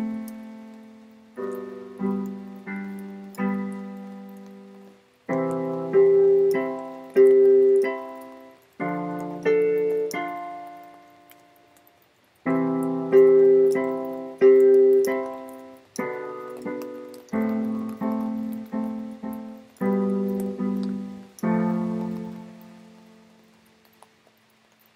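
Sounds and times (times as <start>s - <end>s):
piano chords played slowly: 0.0s - 24.1s.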